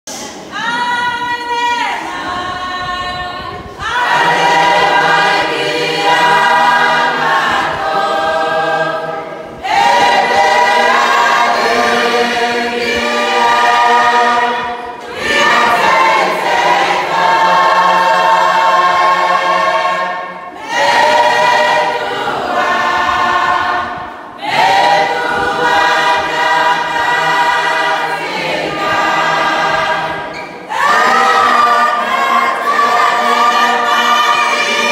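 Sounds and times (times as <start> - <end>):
congregation singing a hymn: 0.1 - 34.9.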